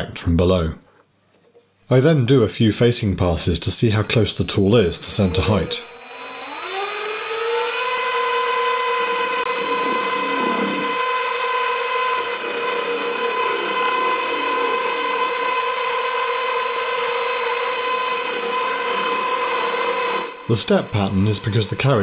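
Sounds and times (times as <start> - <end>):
lathe motor whine: 3.7 - 22.0
cutting tool scraping brass: 4.0 - 22.0.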